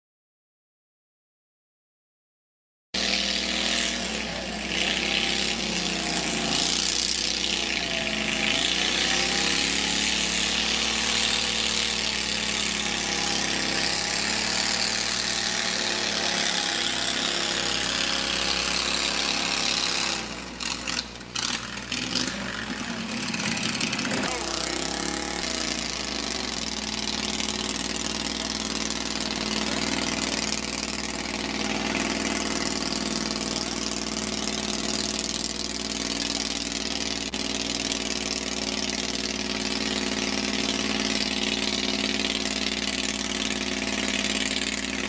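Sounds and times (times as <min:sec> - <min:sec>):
tractor engine running under load: 0:03.1 - 0:45.0.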